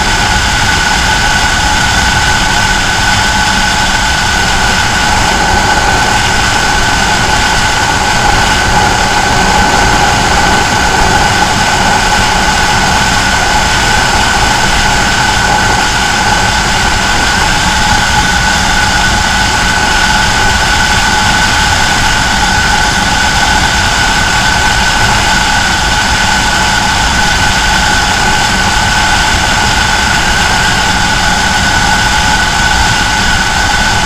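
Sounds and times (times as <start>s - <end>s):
wind rush on microphone: 0.0s - 34.0s.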